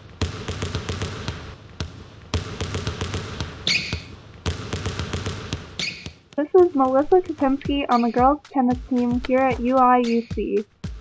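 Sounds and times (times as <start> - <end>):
balls bouncing on hard court: 0.0 - 11.0.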